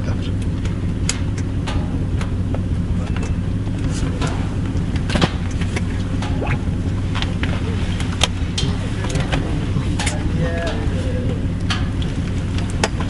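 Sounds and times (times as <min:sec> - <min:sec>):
motor droning: 0:00.0 - 0:13.0.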